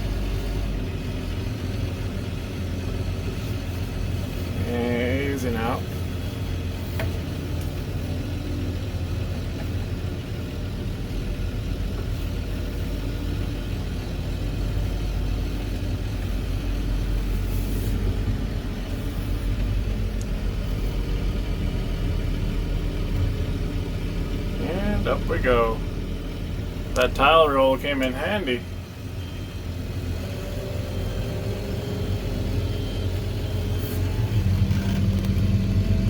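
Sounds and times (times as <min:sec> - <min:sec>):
machine engine low rumble: 0:00.0 - 0:36.0.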